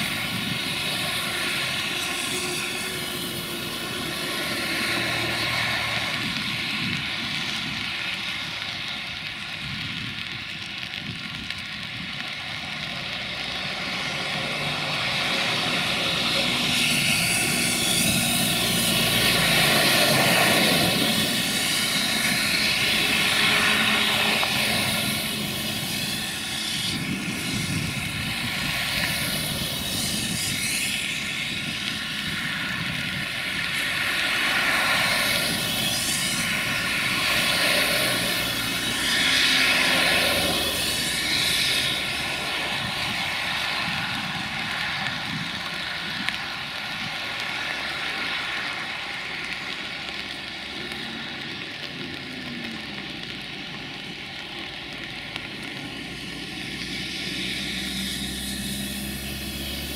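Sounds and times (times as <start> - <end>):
rushing noise: 0.0 - 59.9.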